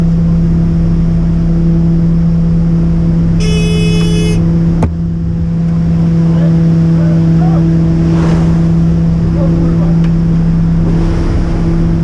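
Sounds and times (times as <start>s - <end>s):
loud engine drone: 0.0s - 12.0s.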